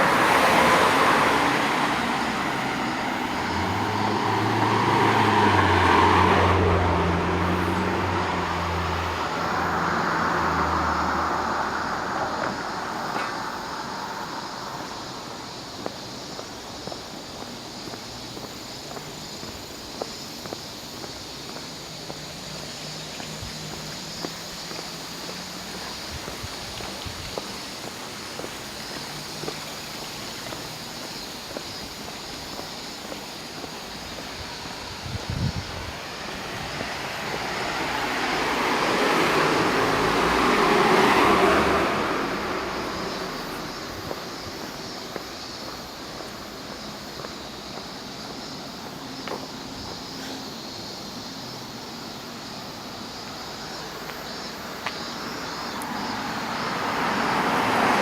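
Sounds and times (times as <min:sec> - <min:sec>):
road vehicle driving past: 0:00.0 - 0:15.7, 0:21.6 - 0:50.6, 0:53.8 - 0:58.0.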